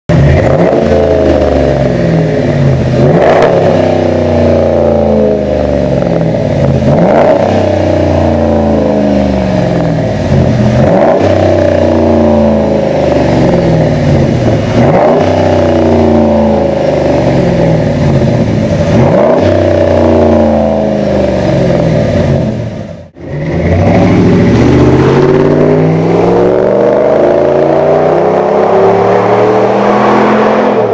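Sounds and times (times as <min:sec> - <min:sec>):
engine revving: 0:00.1 - 0:30.9.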